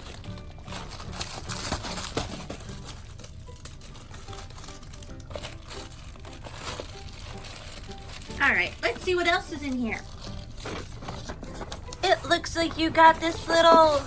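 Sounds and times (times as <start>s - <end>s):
background music: 0.0s - 14.0s
packaging crinkling and rustling: 0.0s - 14.0s.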